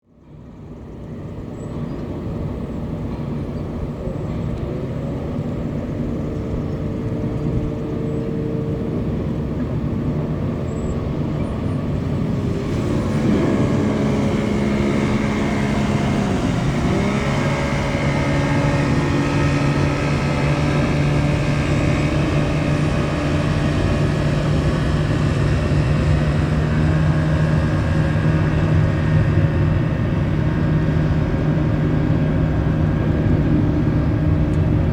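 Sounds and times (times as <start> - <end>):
heavy engines droning: 0.1 - 34.9.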